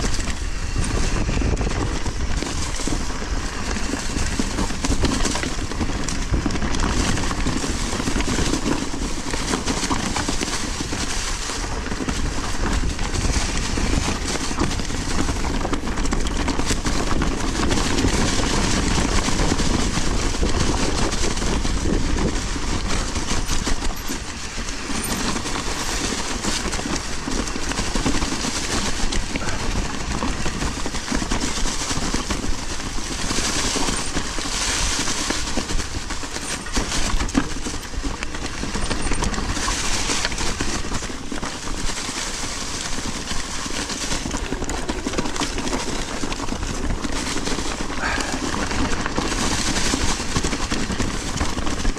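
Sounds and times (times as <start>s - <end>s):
bike rattling over rough ground: 0.0s - 51.9s
tyre and wind noise: 0.0s - 51.9s.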